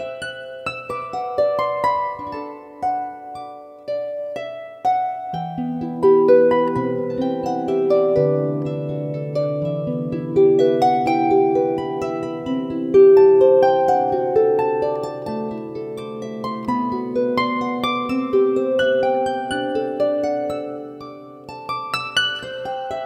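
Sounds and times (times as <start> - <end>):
plucked string melody: 0.0 - 23.0.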